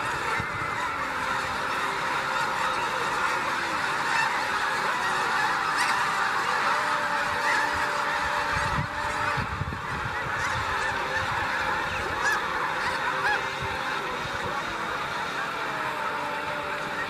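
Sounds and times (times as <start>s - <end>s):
flock of geese honking: 0.0s - 17.0s.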